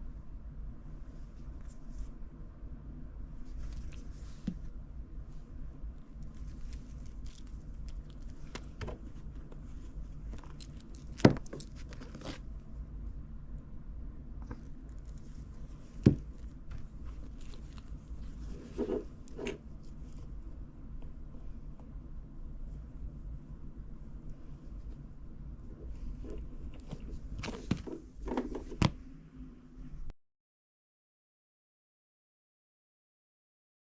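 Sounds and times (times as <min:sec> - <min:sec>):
low steady hum: 0:00.0 - 0:30.2.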